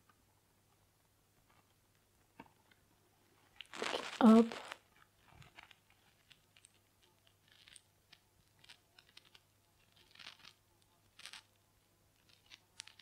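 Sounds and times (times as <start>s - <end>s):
faint soft rustles and ticks: 0.0s - 13.0s.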